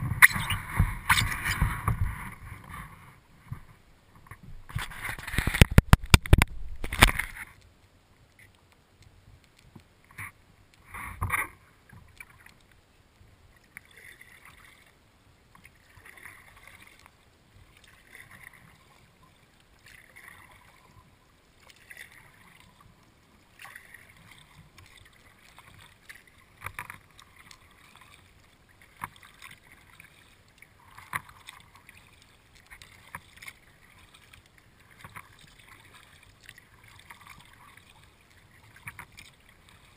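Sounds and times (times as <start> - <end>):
paddle swishing and splashing: 0.0 - 7.6, 13.5 - 15.0, 15.6 - 39.9.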